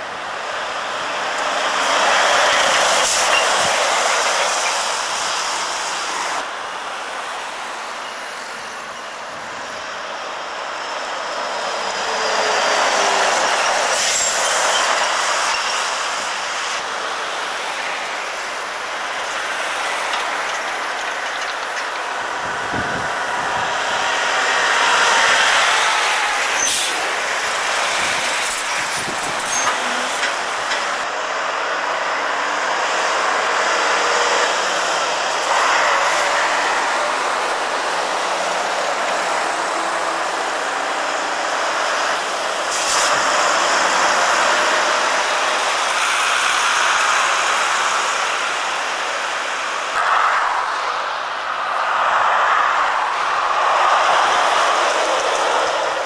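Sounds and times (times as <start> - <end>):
lorries driving past: 0.0 - 56.0.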